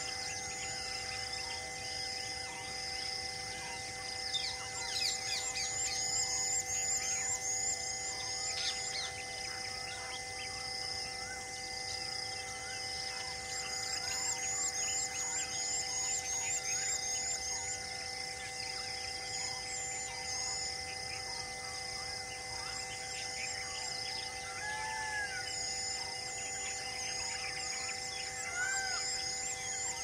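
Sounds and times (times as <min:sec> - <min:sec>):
steady high-pitched hum: 0:00.0 - 0:30.0
wild birds chirping and calling: 0:00.0 - 0:30.0.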